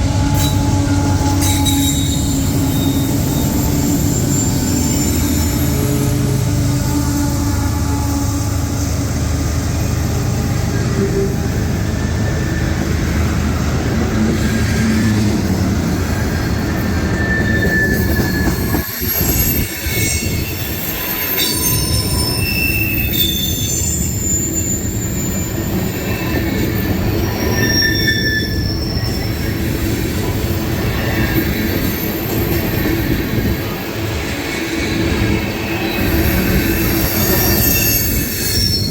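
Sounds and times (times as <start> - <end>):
freight train wheels rumbling: 0.0 - 38.9
high-pitched wheel squeals: 0.0 - 38.9.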